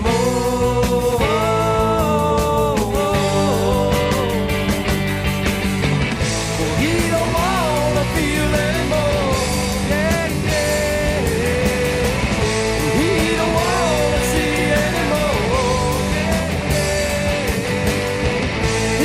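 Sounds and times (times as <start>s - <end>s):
rock music with singing: 0.0s - 19.0s.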